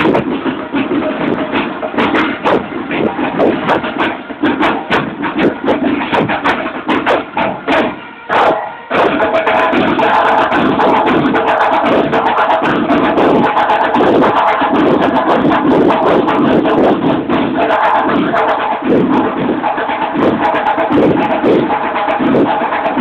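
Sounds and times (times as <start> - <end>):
drums beating rapid rhythm: 0.0 - 23.0
marching band playing: 0.0 - 23.0.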